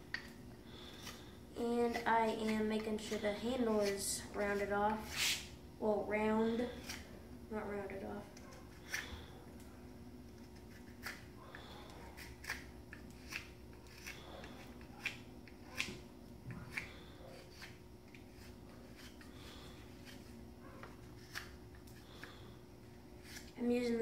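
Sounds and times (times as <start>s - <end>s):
faint steady hum: 0.0s - 24.0s
knife scraping wood: 0.1s - 5.5s, 6.5s - 7.2s, 8.4s - 9.4s, 10.3s - 23.6s.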